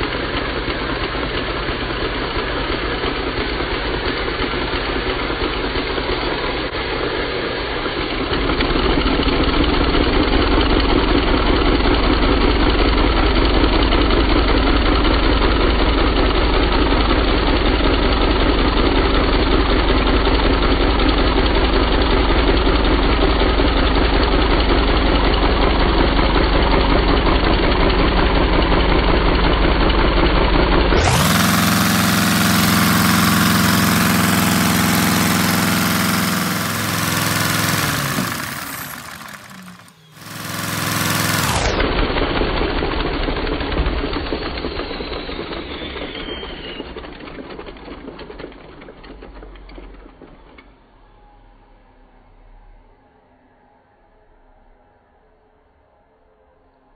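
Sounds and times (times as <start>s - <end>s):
small engine clattering: 0.0s - 50.8s.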